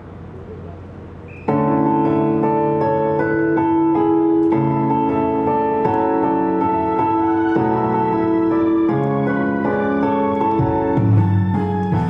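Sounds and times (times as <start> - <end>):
pop backing track with keyboard: 1.3 - 12.0.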